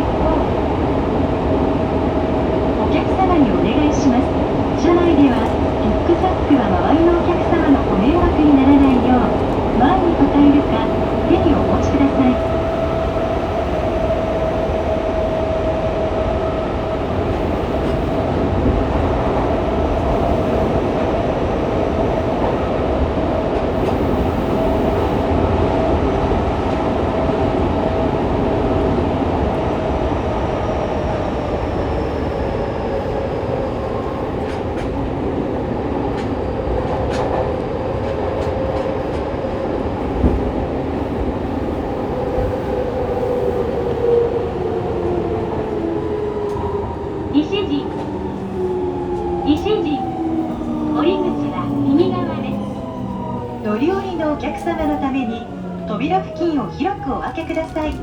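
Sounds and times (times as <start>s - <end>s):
subway train rumble from inside: 0.0s - 58.0s.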